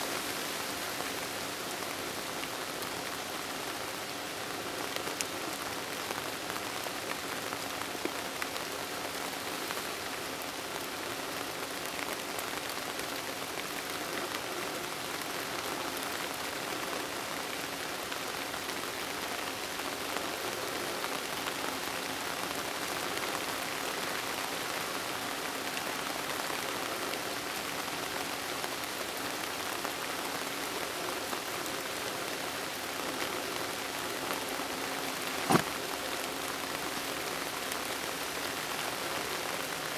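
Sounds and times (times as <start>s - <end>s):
steady rain on foliage: 0.0s - 39.9s.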